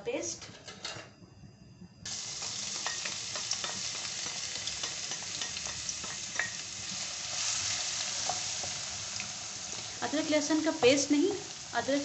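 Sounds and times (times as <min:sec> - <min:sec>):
frying hiss in wok: 0:02.0 - 0:12.0.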